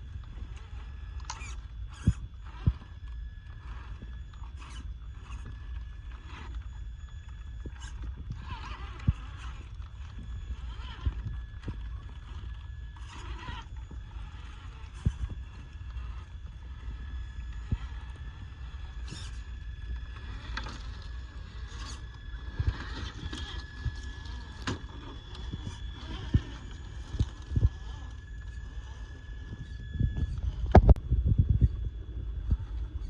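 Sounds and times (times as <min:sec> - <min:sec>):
electric motor and gear whine: 0:00.0 - 0:33.0
low rumble: 0:00.0 - 0:33.0.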